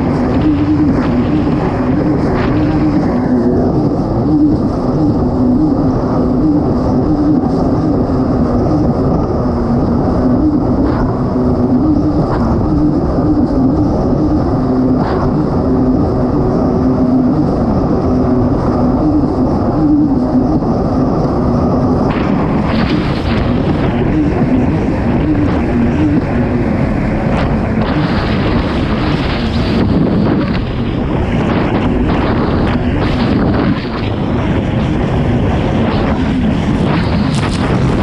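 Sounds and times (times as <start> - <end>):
rushing wind and water: 0.0 - 38.0
watercraft engine running hard: 0.0 - 38.0.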